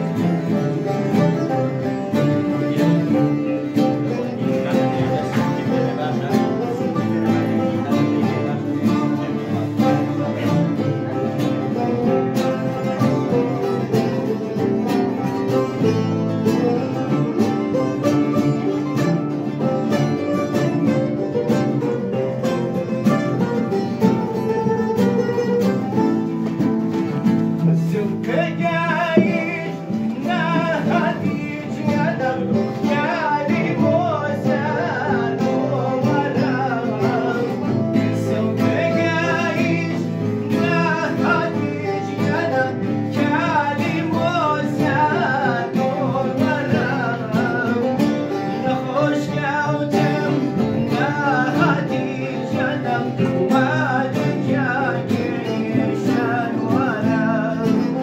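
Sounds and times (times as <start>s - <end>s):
lutes playing together: 0.0s - 58.0s
person singing: 0.0s - 58.0s.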